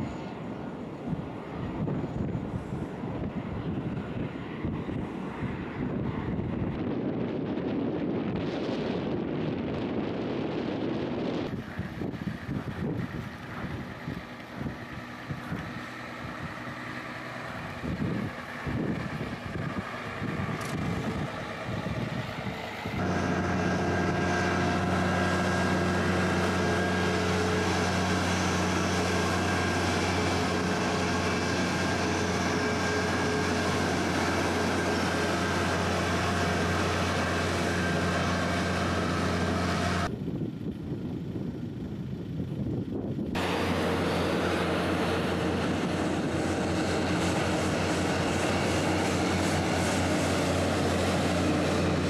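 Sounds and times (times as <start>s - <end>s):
loud steady truck hum: 0.0s - 52.0s
uneven truck noise: 9.9s - 52.0s.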